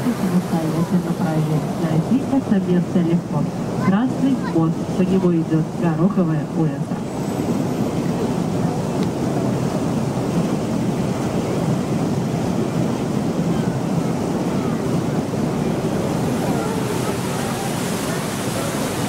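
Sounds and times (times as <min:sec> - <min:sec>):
boat motor and rushing water: 0:00.0 - 0:19.0.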